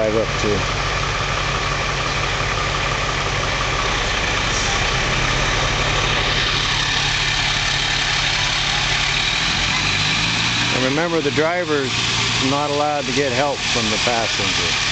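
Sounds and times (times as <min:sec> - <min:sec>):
fire truck engine rumbling: 0:00.0 - 0:14.9.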